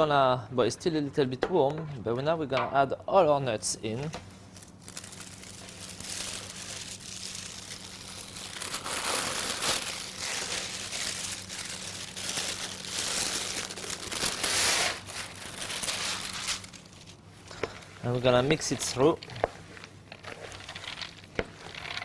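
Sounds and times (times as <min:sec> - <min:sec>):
baking parchment crinkling: 0:04.0 - 0:22.0.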